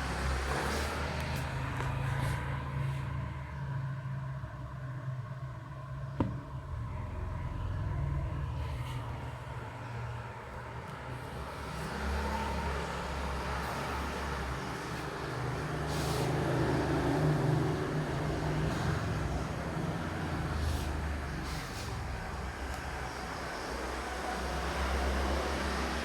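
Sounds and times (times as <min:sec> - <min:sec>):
low rumble of road traffic: 0:00.0 - 0:26.0.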